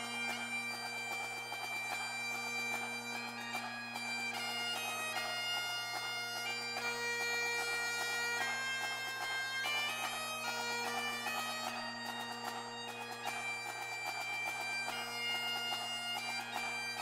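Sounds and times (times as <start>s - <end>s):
bagpipe music: 0.0s - 17.0s.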